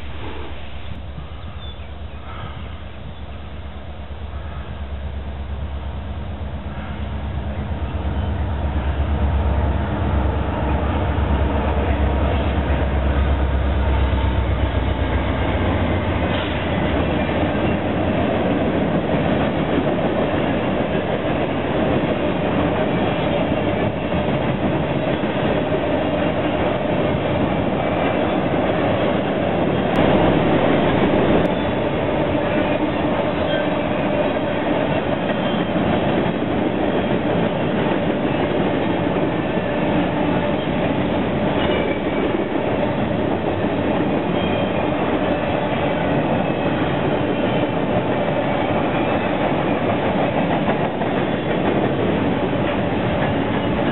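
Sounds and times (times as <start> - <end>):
diesel locomotive engines rumbling: 0.0 - 53.9
train wheels clattering on rails: 6.4 - 53.9.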